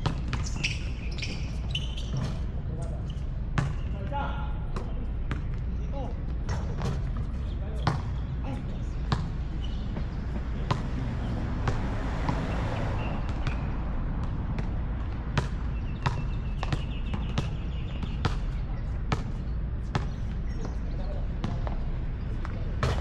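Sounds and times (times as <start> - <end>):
basketball bouncing on hard court: 0.0 - 4.0, 4.7 - 5.6, 6.3 - 12.6, 13.2 - 20.8, 22.4 - 23.0.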